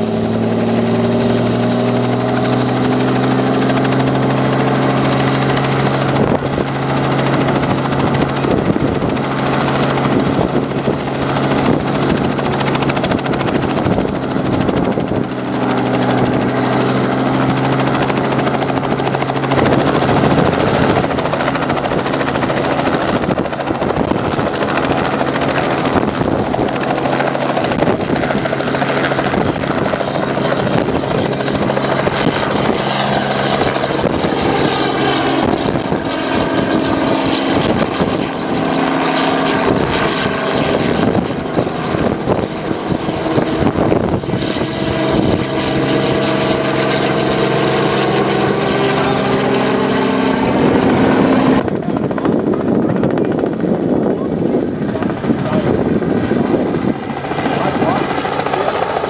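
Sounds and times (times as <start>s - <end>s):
helicopter lifting off overhead: 0.0s - 59.0s.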